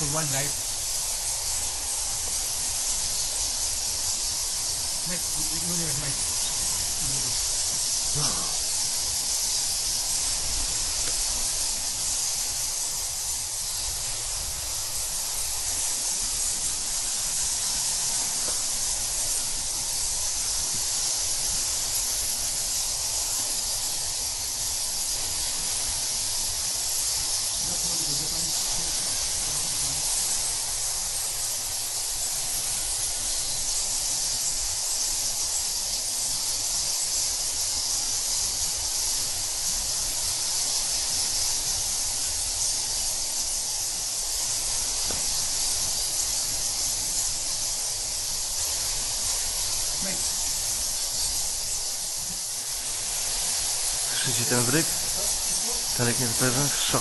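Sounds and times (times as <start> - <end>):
bats squeaking and chittering: 0.0 - 57.0.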